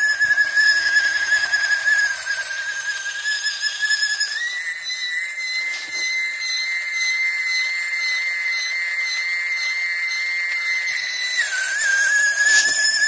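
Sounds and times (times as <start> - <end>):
toy airliner jet whine: 0.0 - 13.0.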